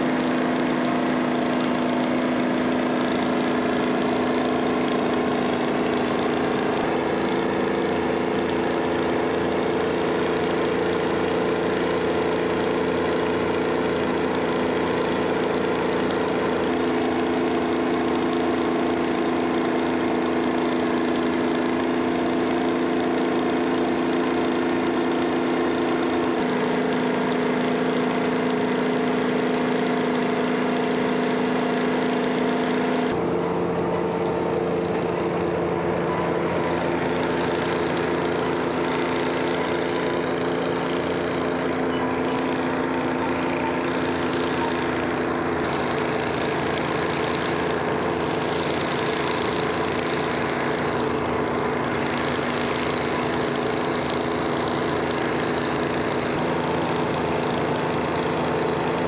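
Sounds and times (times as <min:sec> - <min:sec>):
diesel tractor engines droning: 0:00.0 - 0:59.0.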